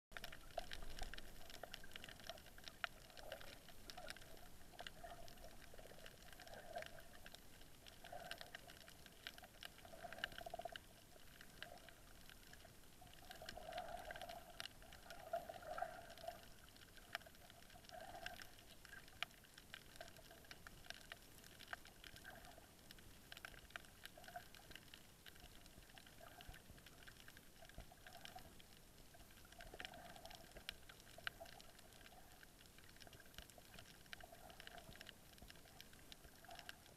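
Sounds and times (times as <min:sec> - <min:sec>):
soft water sounds: 0:00.1 - 0:36.9
underwater clicks and crackles: 0:00.1 - 0:36.9.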